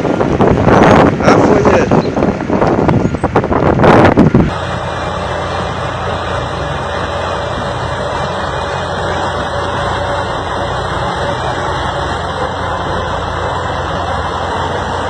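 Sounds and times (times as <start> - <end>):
heavy diesel engine running: 0.0 - 15.0
loud gusty noise: 0.0 - 15.0.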